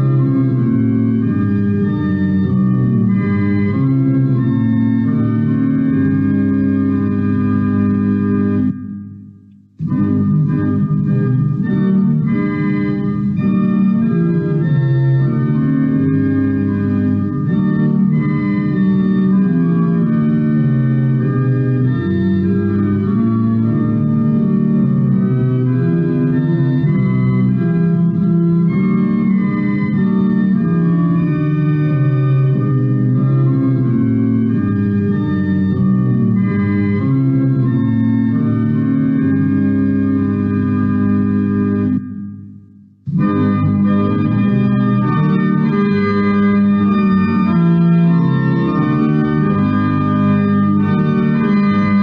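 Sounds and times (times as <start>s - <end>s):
organ playing a hymn: 0.0s - 52.0s.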